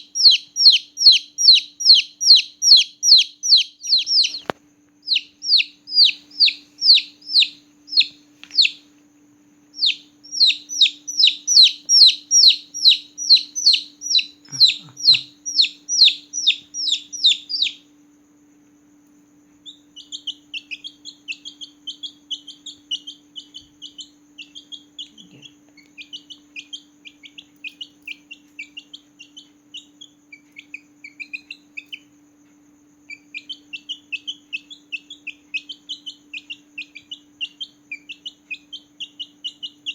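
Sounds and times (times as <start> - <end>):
chicks peeping: 0.0 - 8.9, 9.8 - 17.8, 19.6 - 32.1, 33.1 - 39.9
faint steady hum: 0.0 - 39.9.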